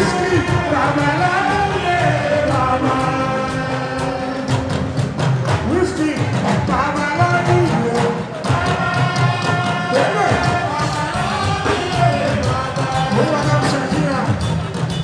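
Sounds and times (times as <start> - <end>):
drums and percussion band: 0.0 - 15.0
person singing: 0.0 - 15.0.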